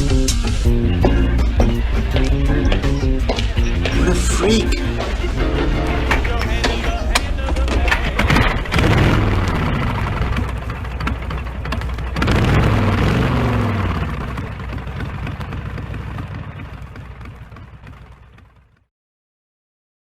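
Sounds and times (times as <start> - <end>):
steady low rumble: 0.0 - 18.6
vehicle engine revving: 0.0 - 18.7.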